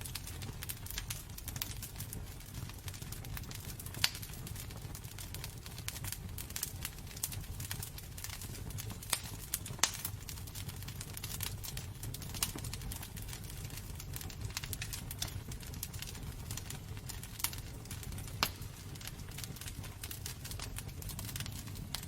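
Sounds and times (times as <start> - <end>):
logs crackling and popping: 0.0 - 22.0
low rumble of flame: 0.0 - 22.0.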